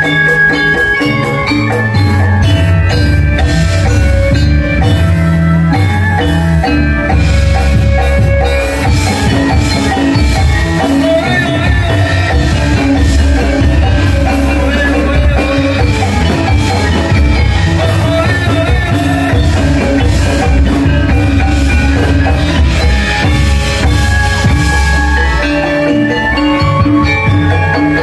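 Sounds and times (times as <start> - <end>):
drums: 0.0 - 28.0
metallophones ringing: 0.0 - 28.0.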